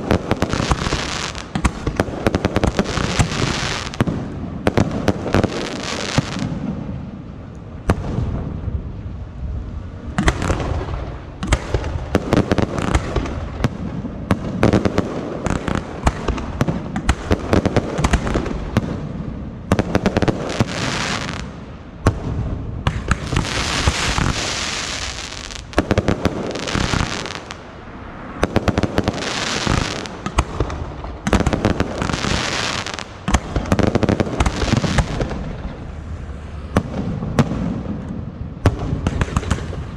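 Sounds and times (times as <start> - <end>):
fireworks bangs and pops: 0.0 - 7.0, 7.8 - 8.8, 10.2 - 27.7, 28.3 - 35.9, 36.7 - 39.9
crackling hiss of fireworks: 0.0 - 39.9.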